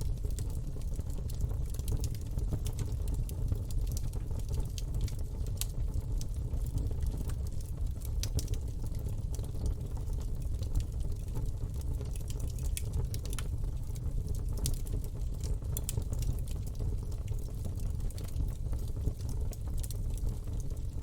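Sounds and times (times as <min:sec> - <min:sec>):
burning wood crackling and popping: 0:00.0 - 0:21.0.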